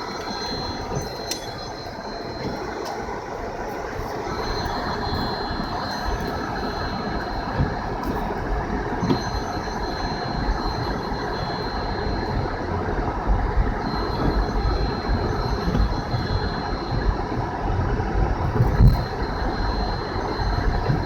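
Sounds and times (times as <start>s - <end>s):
road and tyre noise: 0.0s - 21.0s
thin high whine: 0.0s - 21.0s.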